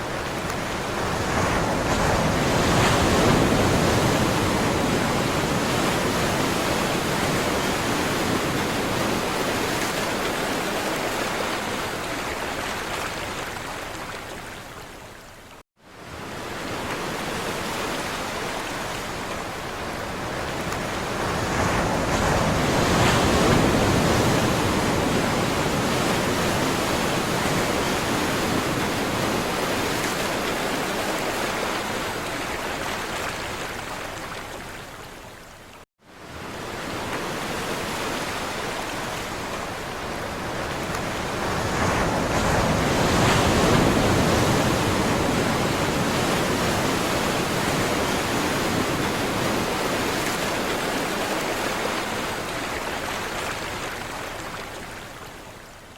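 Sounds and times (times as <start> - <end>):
waves washing ashore: 0.0 - 55.9.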